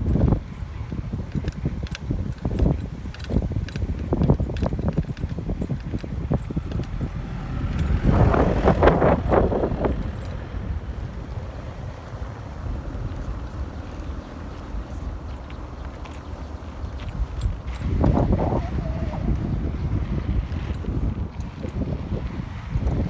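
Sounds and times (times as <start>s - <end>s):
rattling noise: 0.0s - 19.4s
bicycle rolling noise: 0.0s - 23.0s
wind rumble on microphone: 0.0s - 23.0s.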